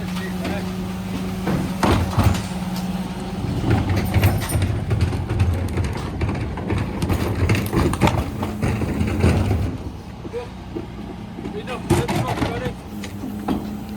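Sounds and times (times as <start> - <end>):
low thumping and clatter: 0.0 - 13.8
refuse truck hum: 0.0 - 13.9.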